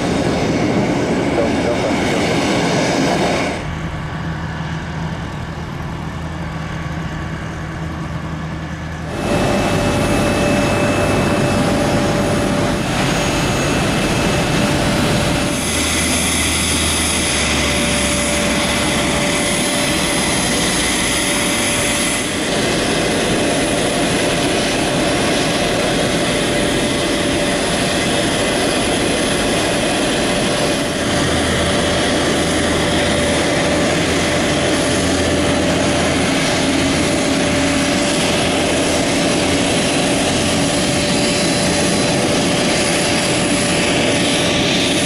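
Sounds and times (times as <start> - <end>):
jet engine whine: 0.0 - 45.0.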